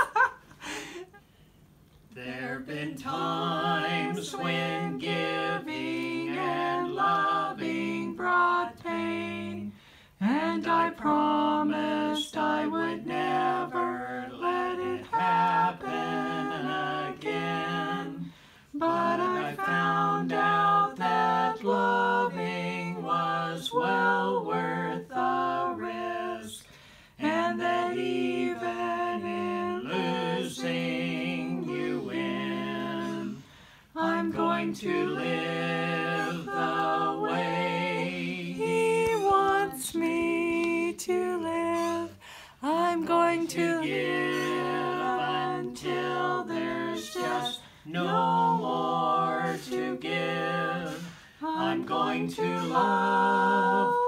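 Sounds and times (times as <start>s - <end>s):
man and woman singing: 2.1s - 54.0s.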